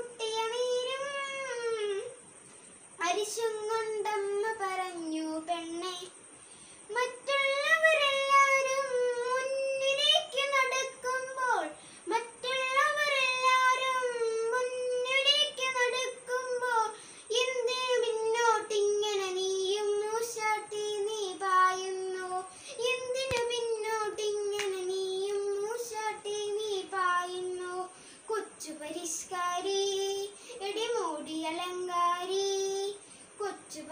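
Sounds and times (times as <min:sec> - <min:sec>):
boy singing unaccompanied: 0:00.0 - 0:02.3, 0:02.9 - 0:06.2, 0:06.9 - 0:33.9.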